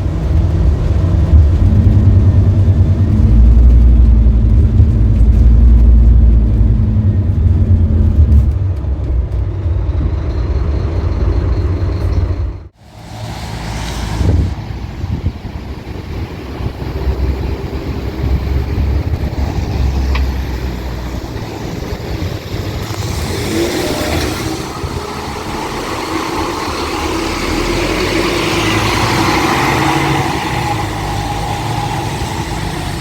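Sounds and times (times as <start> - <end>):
bus diesel engine rumbling: 0.0 - 33.0
road noise: 0.0 - 33.0.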